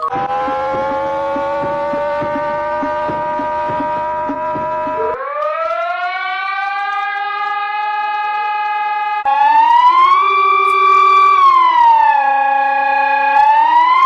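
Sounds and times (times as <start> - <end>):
alarm siren: 0.0 - 14.0.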